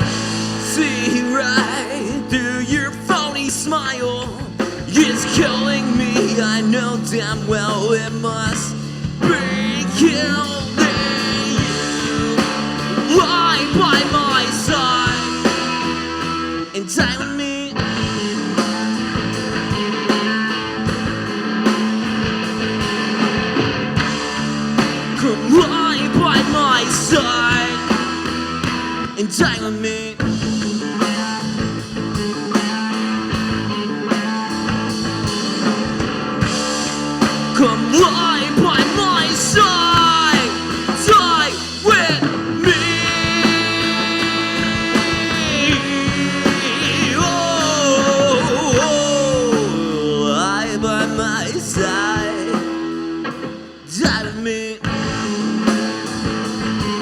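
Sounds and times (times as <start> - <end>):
lead guitar bending notes: 0.0 - 16.8, 17.6 - 57.0
rock band playing: 0.0 - 57.0.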